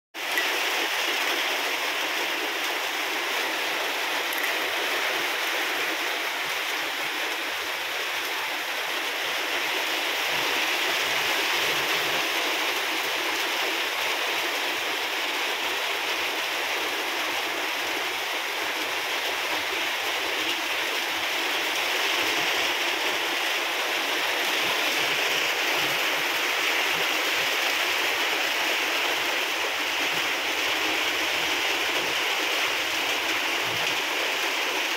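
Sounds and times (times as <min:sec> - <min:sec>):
rain on wet concrete: 0:00.2 - 0:34.9.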